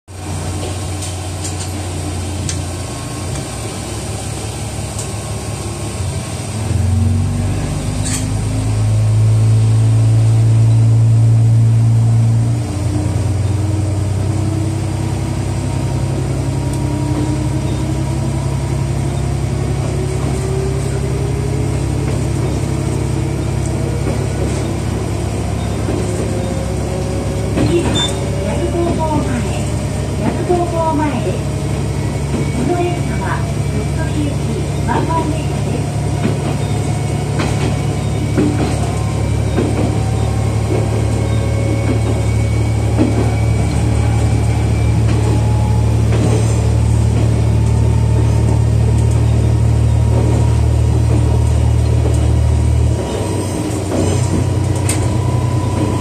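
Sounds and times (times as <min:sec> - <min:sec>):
diesel railcar engine: 0:00.1 - 0:56.0.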